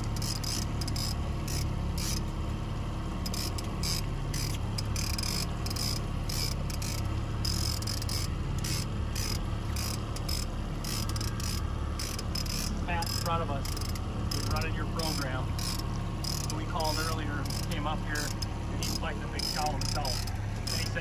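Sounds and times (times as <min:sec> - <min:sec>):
fishing reel ratcheting: 0:00.0 - 0:02.3, 0:03.2 - 0:21.0
outboard motor drone: 0:00.0 - 0:21.0.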